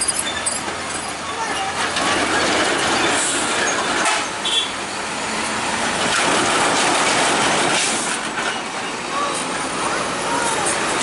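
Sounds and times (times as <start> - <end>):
heavy vehicles passing: 0.0 - 11.0.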